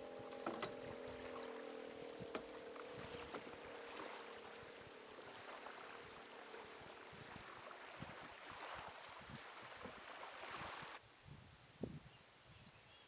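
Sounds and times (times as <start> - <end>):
distant motorboat engine drone: 0.0 - 11.0
water washing: 0.0 - 11.0
wind: 0.0 - 13.0.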